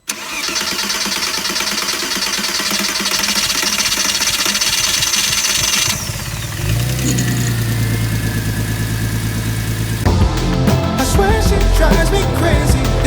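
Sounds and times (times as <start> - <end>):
car engine starting and idling rough: 0.0 - 13.0.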